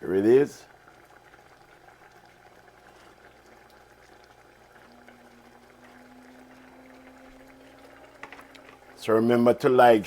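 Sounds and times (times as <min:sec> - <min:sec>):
faint steady hum: 0:00.0 - 0:10.0
stew bubbling in a pot: 0:00.0 - 0:10.0.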